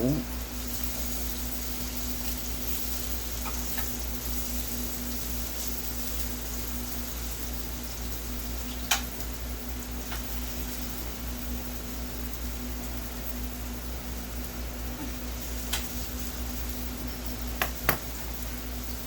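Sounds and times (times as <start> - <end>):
low electrical hum and hiss: 0.0 - 19.0.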